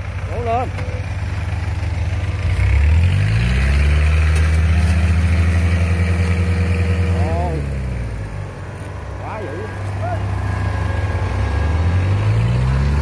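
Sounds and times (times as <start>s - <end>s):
diesel engines straining: 0.0s - 13.0s.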